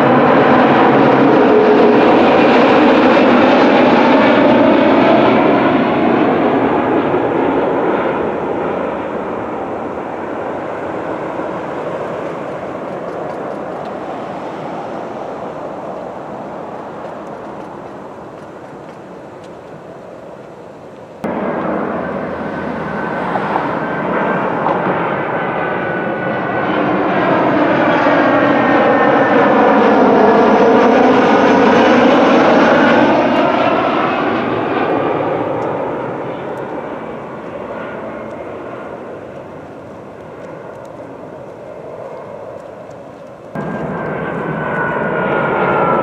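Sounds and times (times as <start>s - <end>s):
jet airliner passing overhead: 0.0s - 46.0s.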